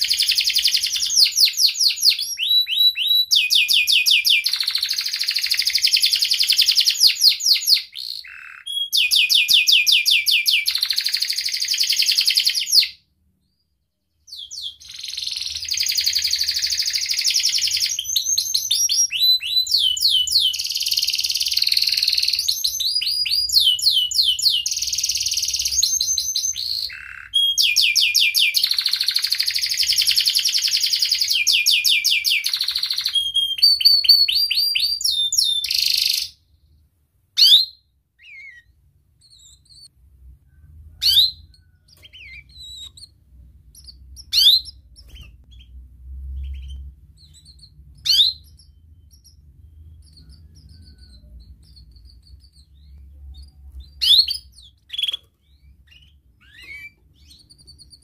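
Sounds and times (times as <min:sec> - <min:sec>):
canary singing trills: 0:00.0 - 0:36.8, 0:37.4 - 0:39.9, 0:40.5 - 0:58.0.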